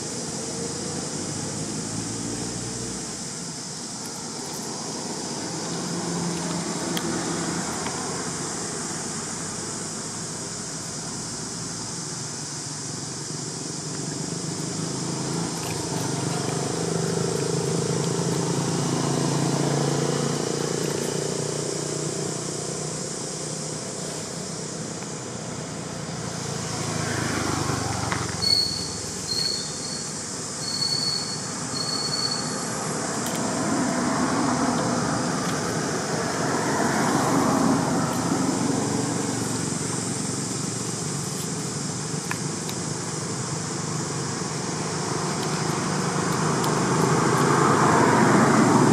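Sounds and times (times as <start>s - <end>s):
traffic noise: 0.0s - 48.9s
vehicles passing: 0.0s - 48.9s.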